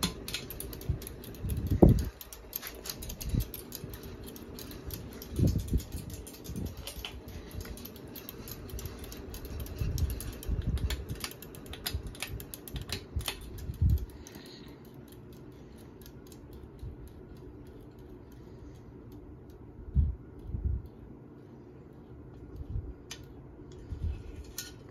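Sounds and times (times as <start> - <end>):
light ticking: 0.0 - 21.1
sharp irregular clicks: 0.0 - 21.2
ceiling fan hum: 0.0 - 24.9.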